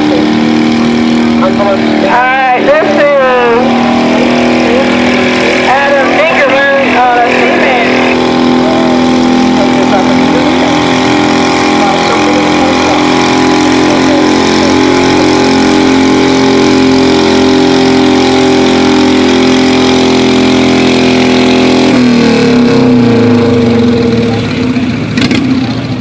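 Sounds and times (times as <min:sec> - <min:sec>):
riding lawn mower engine under load: 0:00.0 - 0:26.0.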